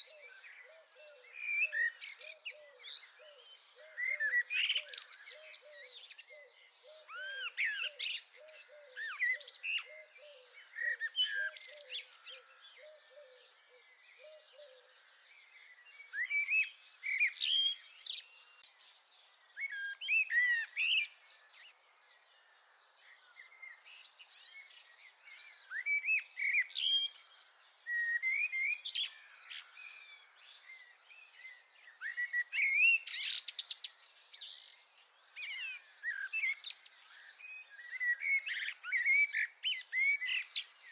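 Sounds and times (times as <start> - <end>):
small birds chirping and singing: 0.0 - 40.9.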